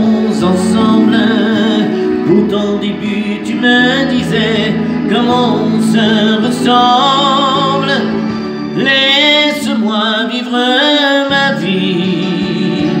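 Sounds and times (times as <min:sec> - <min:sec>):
ballad backing track: 0:00.0 - 0:13.0
man singing into microphone: 0:00.0 - 0:13.0.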